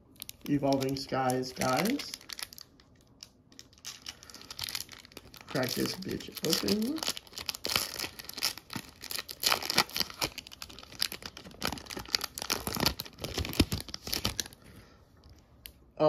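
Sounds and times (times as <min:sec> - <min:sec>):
foil wrapper tearing and crinkling: 0:00.2 - 0:14.6.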